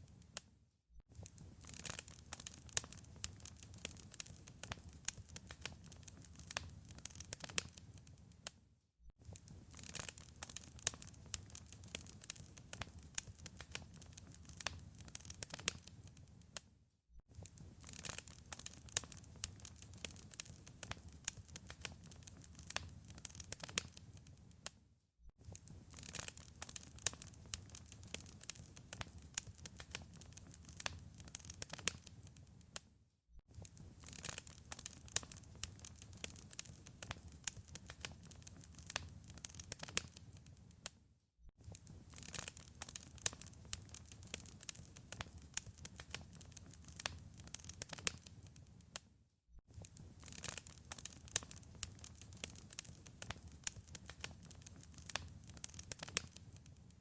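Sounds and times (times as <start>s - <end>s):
wood fire crackling: 1.1s - 8.5s, 9.3s - 16.4s, 17.3s - 24.7s, 25.5s - 32.8s, 33.5s - 40.7s, 41.6s - 49.0s, 49.7s - 57.0s.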